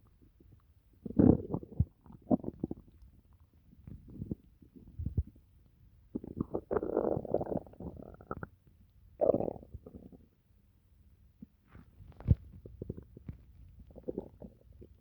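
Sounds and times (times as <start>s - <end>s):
stomach gurgling: 0.0s - 10.4s, 11.4s - 15.0s.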